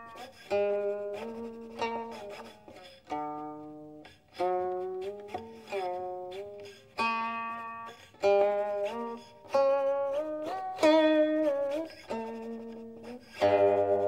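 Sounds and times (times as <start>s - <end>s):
plucked zither notes sliding: 0.0s - 14.0s.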